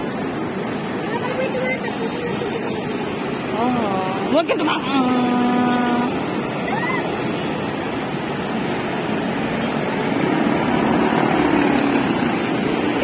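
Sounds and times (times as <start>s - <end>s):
dense road traffic: 0.0s - 13.0s.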